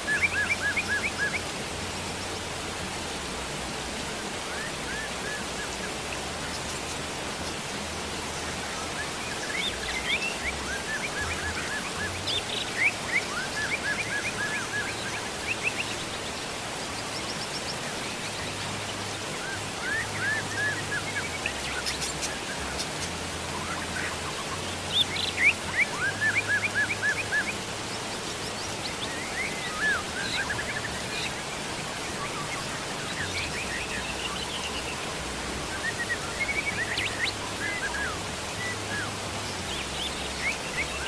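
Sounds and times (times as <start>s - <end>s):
birds chirping: 0.0s - 41.0s
rain hiss: 0.0s - 41.0s.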